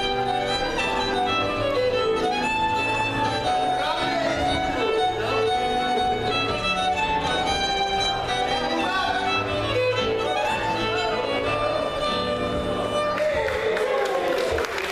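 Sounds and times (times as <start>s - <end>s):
fiddle playing tune: 0.0s - 13.8s
live folk dance band: 0.0s - 14.6s.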